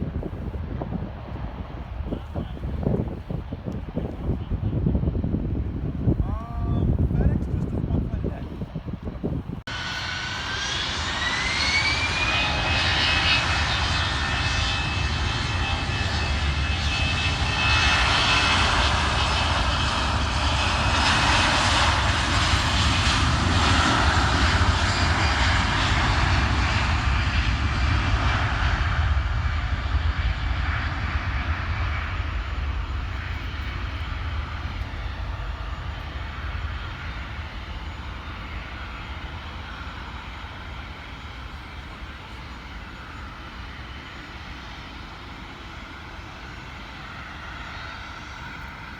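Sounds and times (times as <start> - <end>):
jet engine rush: 0.0 - 48.9
jet engine whine: 0.0 - 48.9.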